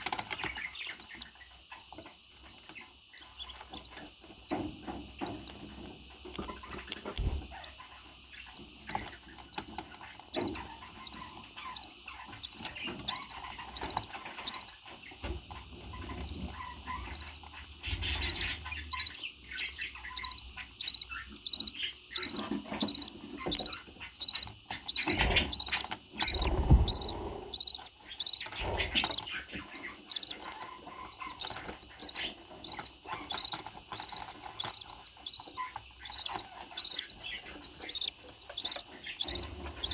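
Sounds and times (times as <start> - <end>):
parrots chirping: 0.0 - 5.8, 6.4 - 39.9.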